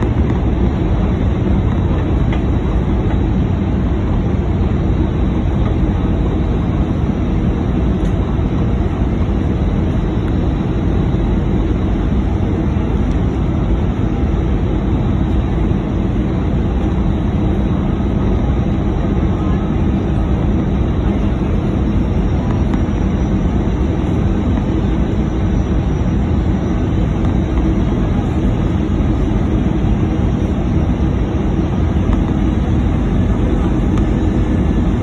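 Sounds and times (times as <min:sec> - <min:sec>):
aircraft engines roaring: 0:00.0 - 0:35.0
faint steady hum: 0:00.0 - 0:35.0.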